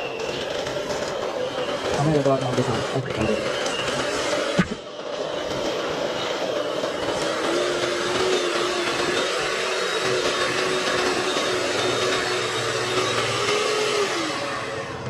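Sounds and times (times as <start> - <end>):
electric hand mixer whipping batter: 0.0 - 15.0.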